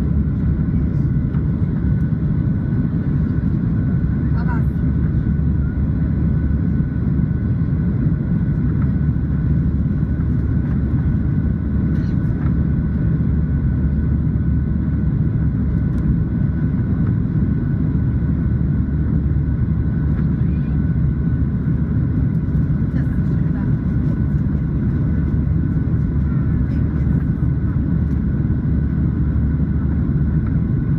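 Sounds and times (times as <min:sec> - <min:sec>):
airplane cabin engine rumble: 0:00.0 - 0:30.9.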